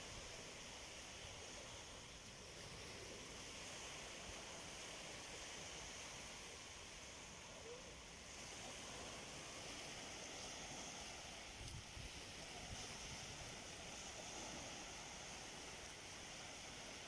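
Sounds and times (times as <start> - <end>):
low rumble of wind: 0.0 - 17.0
small waves on a sandy shore: 0.0 - 17.0.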